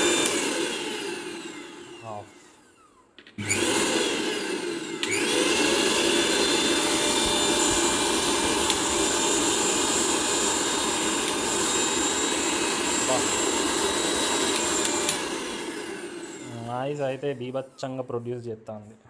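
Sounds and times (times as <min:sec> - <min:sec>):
mixer grinder motor running: 0:00.0 - 0:18.0.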